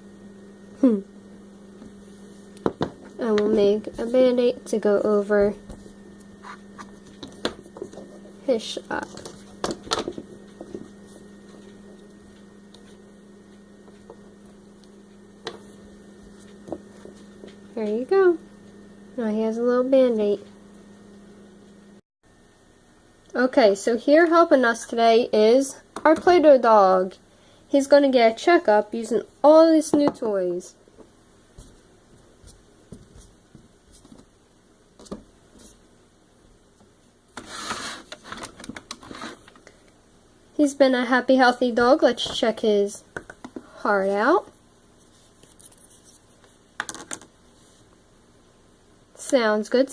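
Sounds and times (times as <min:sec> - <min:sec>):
steady electrical hum: 0:00.0 - 0:49.9.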